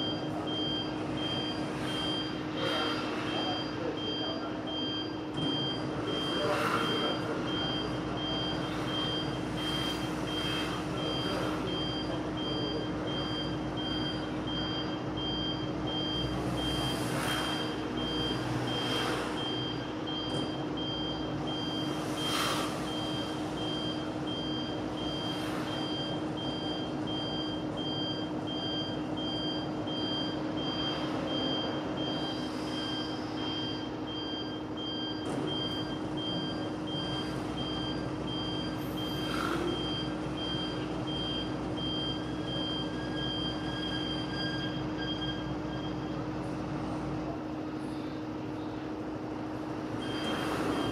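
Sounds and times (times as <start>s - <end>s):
high-pitched electronic beep: 0.0s - 46.1s
washing machine humming: 7.1s - 16.9s, 17.9s - 50.9s.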